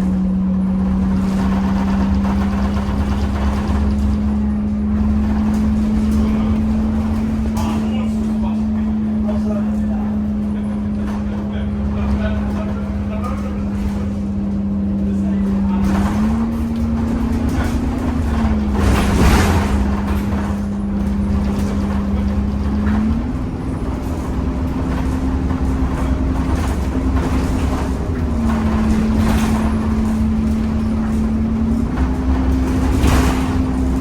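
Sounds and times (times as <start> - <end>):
bus engine whine jumping in pitch: 0.0 - 34.0.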